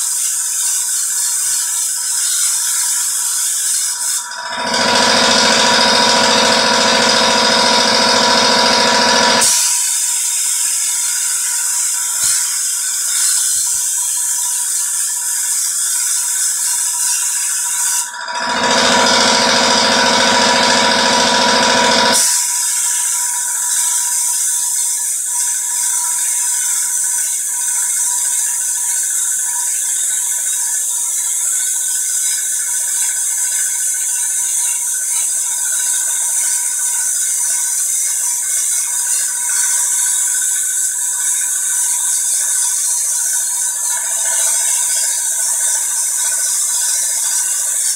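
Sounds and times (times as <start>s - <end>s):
sandblasting gun hissing: 0.0s - 4.2s, 9.4s - 18.1s, 22.1s - 47.9s.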